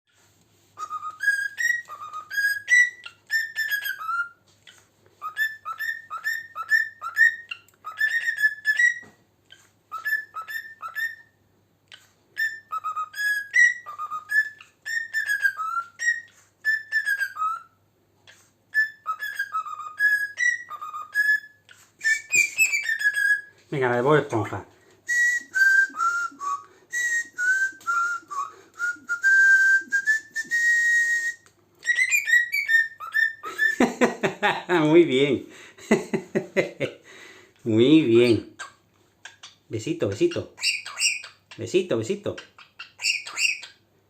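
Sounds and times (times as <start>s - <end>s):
cockatiel whistling a tune: 0.8s - 11.4s, 12.4s - 23.6s, 25.0s - 34.0s, 38.2s - 41.6s, 42.6s - 43.8s.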